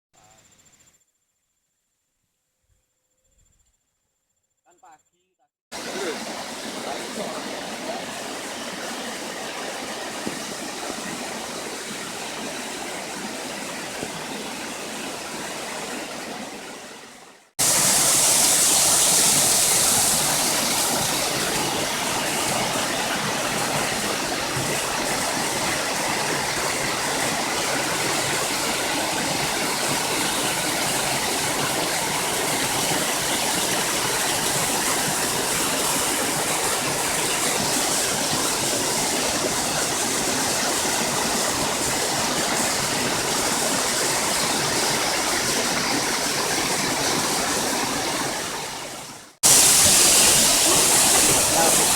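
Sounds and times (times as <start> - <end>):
hissy rush of water: 5.7 - 51.9
waterfall rushing: 5.7 - 51.9.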